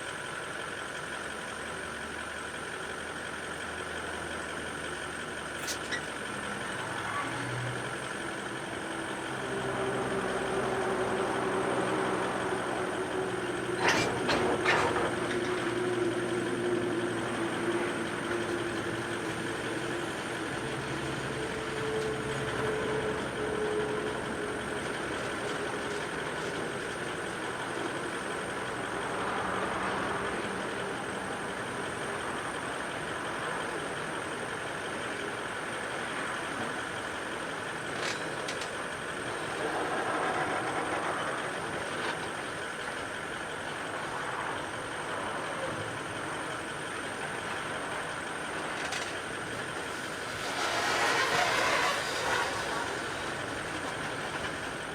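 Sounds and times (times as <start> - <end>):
train mechanical drone: 0.0 - 54.9.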